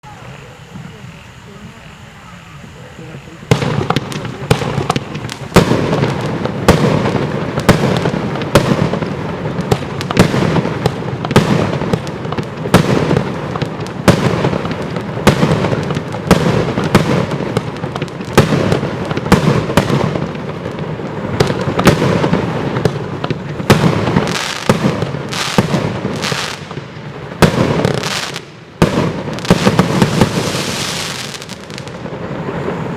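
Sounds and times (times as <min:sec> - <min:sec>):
firework bursting effects: 0:00.0 - 0:32.9
firework launch bangs: 0:03.5 - 0:32.9.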